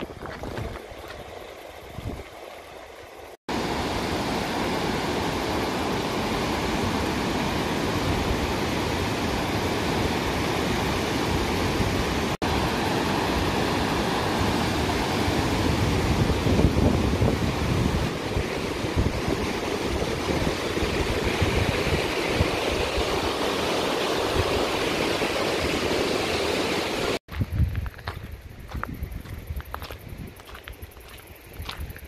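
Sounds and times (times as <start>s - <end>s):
wind buffeting microphone: 0.0s - 2.3s, 6.4s - 26.1s, 27.3s - 32.0s
fast river rushing: 0.9s - 27.2s.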